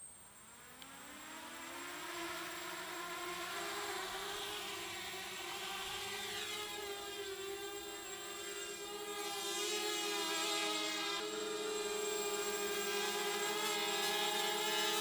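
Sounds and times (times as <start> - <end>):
quadcopter motors whining: 0.3 - 15.0.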